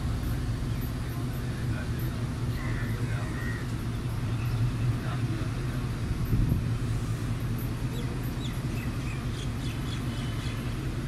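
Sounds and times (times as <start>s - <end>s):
locomotive engine idling: 0.0s - 11.0s.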